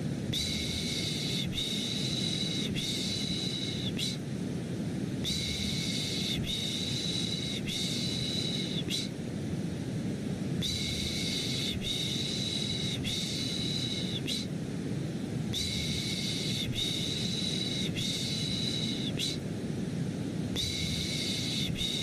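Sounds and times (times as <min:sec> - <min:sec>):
low rushing white noise: 0:00.0 - 0:22.0.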